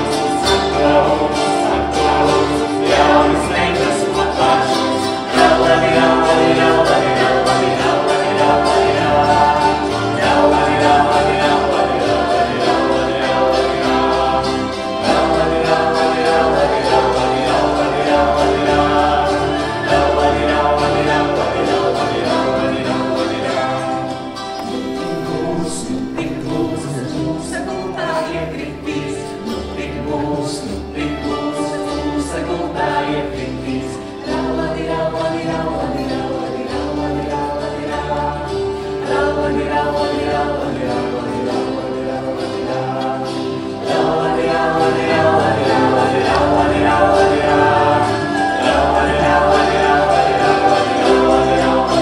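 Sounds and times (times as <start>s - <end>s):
men and women singing together: 0.0s - 52.0s.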